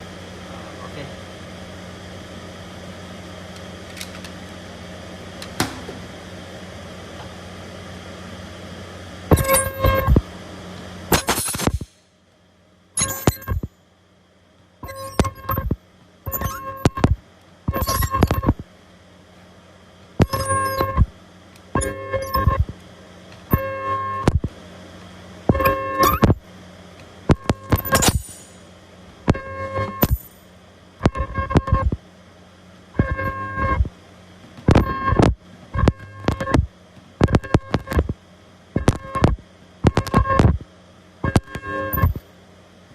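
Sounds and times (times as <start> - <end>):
ultrasonic welder ringing buzz: 0.0 - 42.8
low steady machine hum: 0.0 - 42.9.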